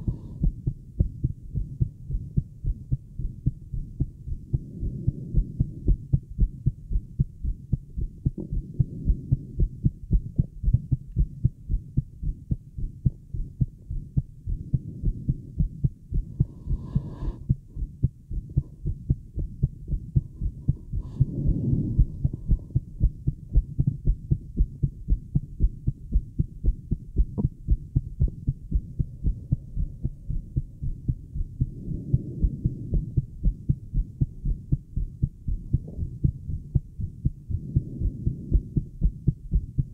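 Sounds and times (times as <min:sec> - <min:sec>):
fast heartbeat through stethoscope: 0:00.0 - 0:39.9.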